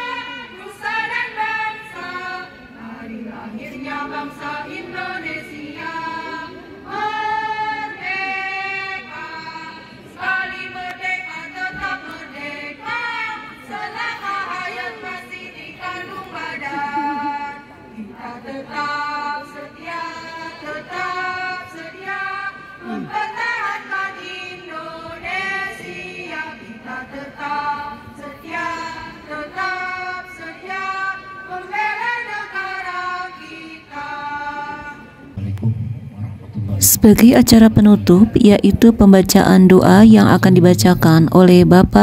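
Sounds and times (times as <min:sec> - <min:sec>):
women's choir singing: 0:00.0 - 0:35.1.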